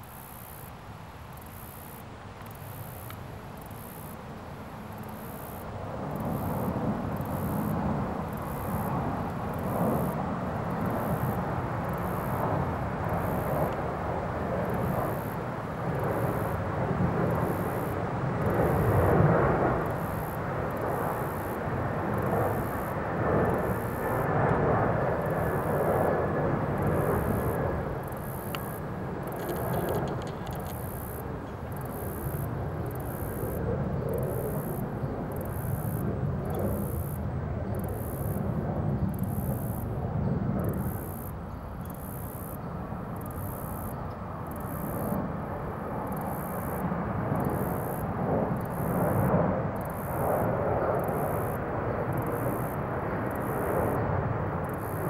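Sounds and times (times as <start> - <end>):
insect chirps: 0.0 - 13.8, 14.6 - 16.6, 17.2 - 24.4, 25.1 - 45.4, 46.0 - 55.0.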